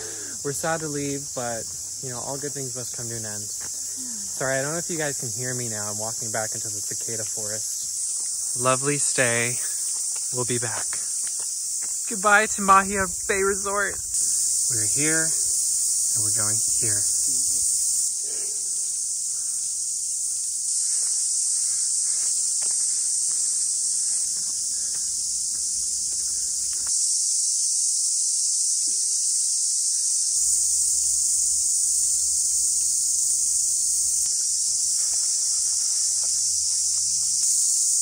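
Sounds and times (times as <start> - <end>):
cicadas shrilling: 0.0 - 38.0.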